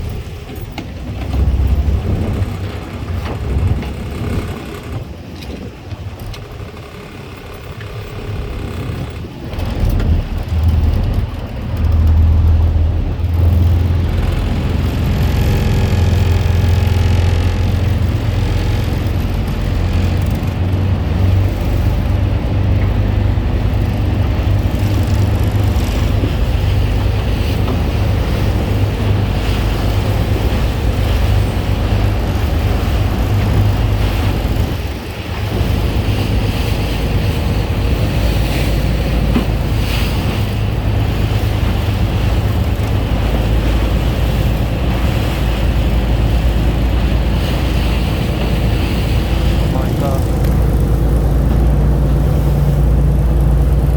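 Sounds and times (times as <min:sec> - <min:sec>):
wind buffeting microphone: 0:00.0 - 0:06.6, 0:07.4 - 0:53.9
sea waves washing: 0:00.0 - 0:53.9.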